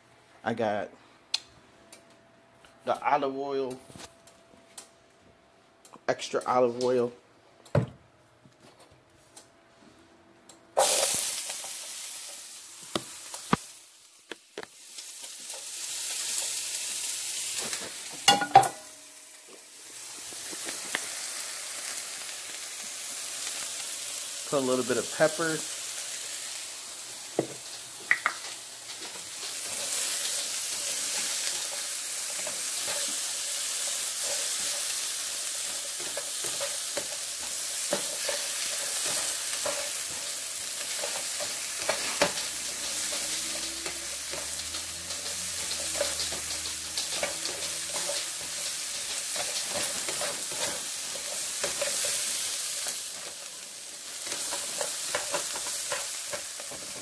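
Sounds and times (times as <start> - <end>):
peppers sizzling in a skillet: 10.7 - 57.0.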